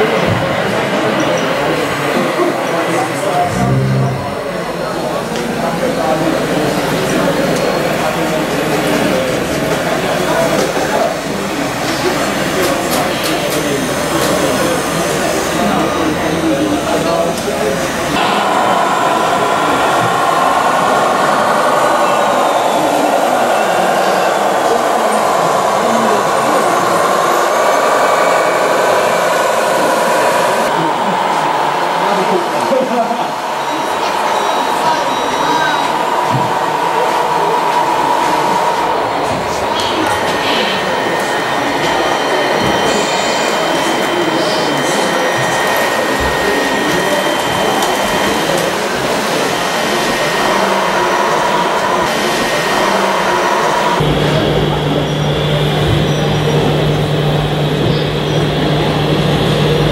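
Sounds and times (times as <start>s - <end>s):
model dump truck mechanical drone: 0.0s - 59.9s
hydraulic pump whining: 2.0s - 59.9s.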